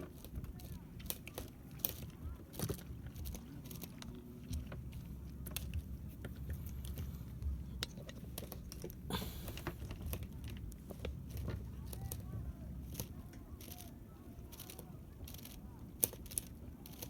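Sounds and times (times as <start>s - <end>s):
light clicks and taps: 0.0s - 17.0s
steady low rumble: 0.2s - 17.0s.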